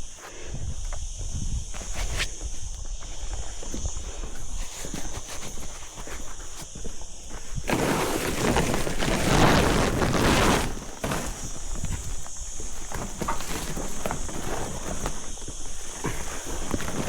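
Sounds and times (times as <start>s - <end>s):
branches rustling and crackling: 1.9s - 17.0s.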